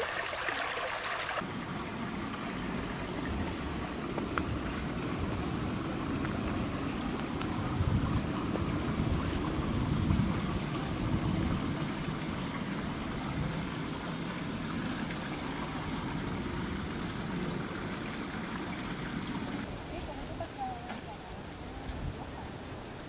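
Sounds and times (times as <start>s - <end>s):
stream rushing over stones: 0.0s - 19.9s.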